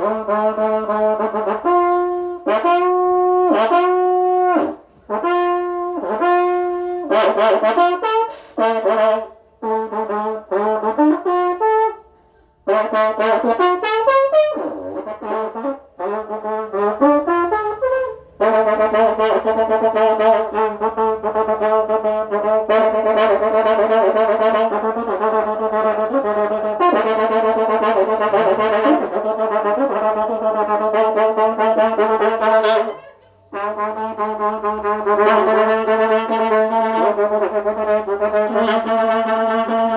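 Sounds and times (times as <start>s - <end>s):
long brass trumpet blasts: 0.0s - 39.9s.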